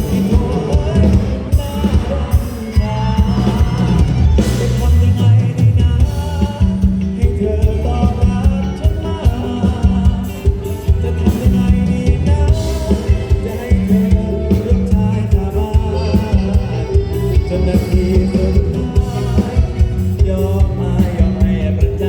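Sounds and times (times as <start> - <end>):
live band playing: 0.0 - 22.0
person singing: 0.0 - 22.0
steady drum beat: 0.0 - 22.0.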